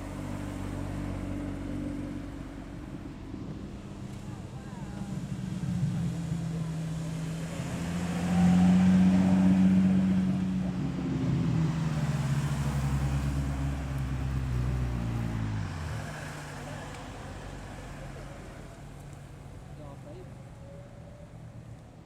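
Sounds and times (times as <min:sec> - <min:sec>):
car driving slowly past: 0:00.0 - 0:22.0.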